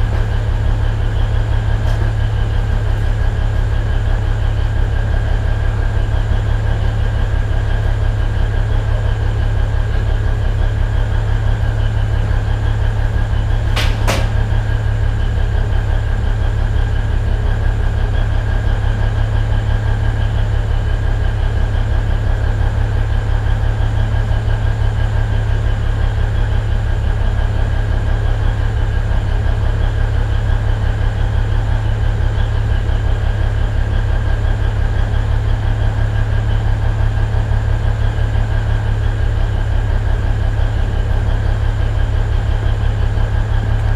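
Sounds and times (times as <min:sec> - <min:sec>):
diesel locomotive engine running: 0:00.0 - 0:43.9.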